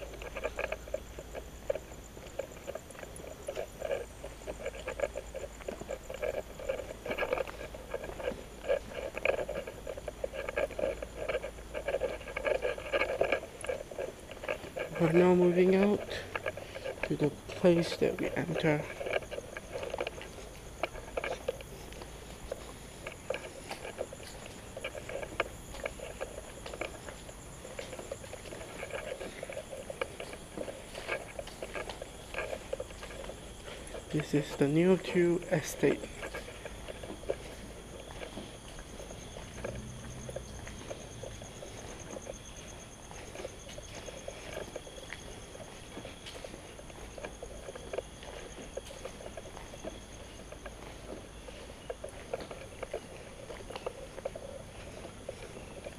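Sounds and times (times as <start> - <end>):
footsteps on concrete floor: 0.0 - 55.9
high-pitched insect chirring: 0.0 - 55.9.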